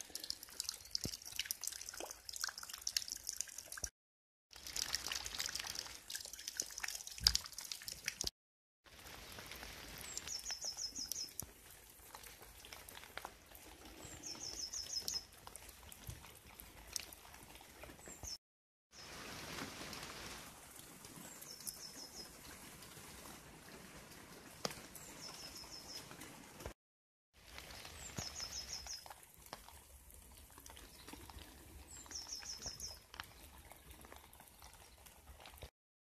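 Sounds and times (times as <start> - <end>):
rainwater dripping and splashing: 0.0 - 3.9, 4.5 - 35.7.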